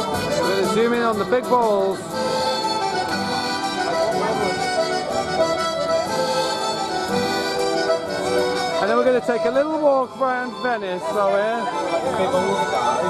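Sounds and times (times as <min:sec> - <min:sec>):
accordion playing chords: 0:00.0 - 0:13.0.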